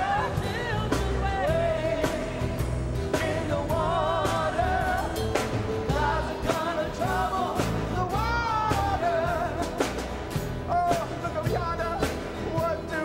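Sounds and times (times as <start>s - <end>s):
band with drums and bass: 0.0s - 13.0s
person singing with vibrato: 0.0s - 13.0s.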